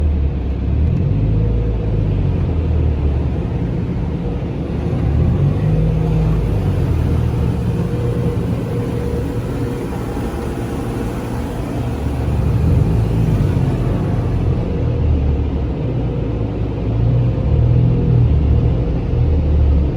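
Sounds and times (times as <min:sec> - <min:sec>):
car engine rumbling: 0:00.4 - 0:19.9.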